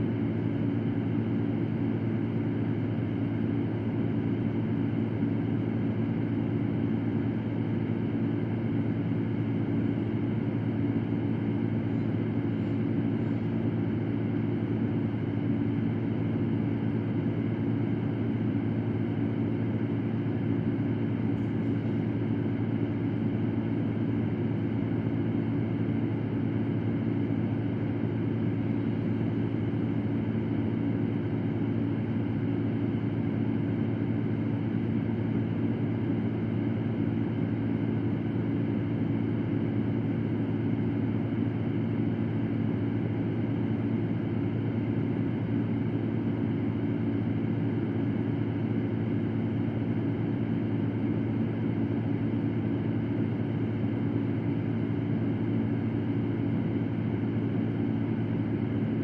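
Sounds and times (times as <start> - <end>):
fan low hum: 0.0 - 59.0.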